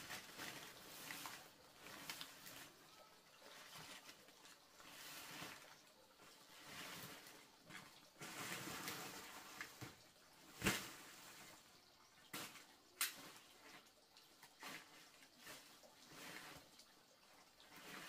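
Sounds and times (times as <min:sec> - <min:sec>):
water swishing and splashing: 0:00.0 - 0:18.0.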